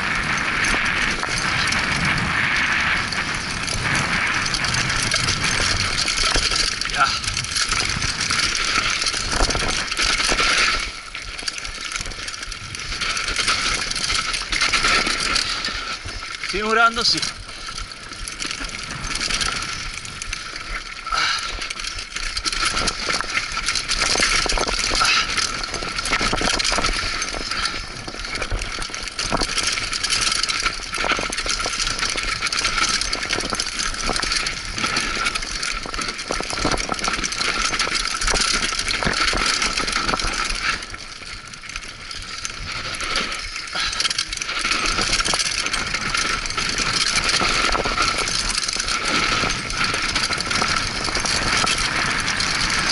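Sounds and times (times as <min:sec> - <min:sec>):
bike rattling over stones: 0:00.0 - 0:52.9.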